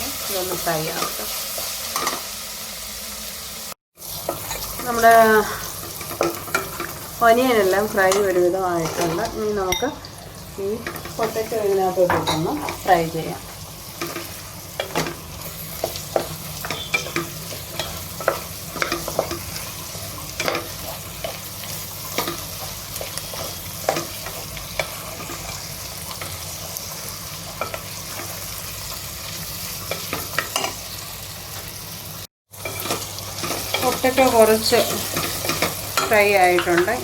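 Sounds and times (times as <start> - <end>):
potatoes sizzling in oil: 0.0 - 37.0.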